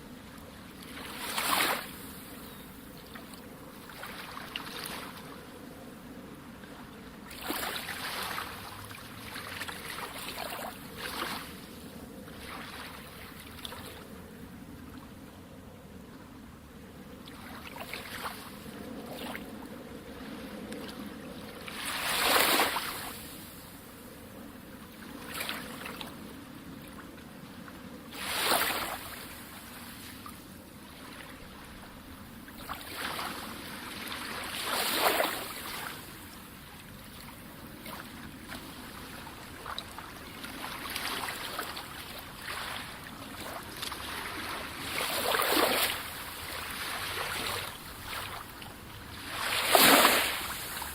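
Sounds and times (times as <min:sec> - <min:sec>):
sea waves breaking on shore: 0:00.0 - 0:02.4, 0:03.1 - 0:05.4, 0:06.4 - 0:14.2, 0:17.3 - 0:50.9.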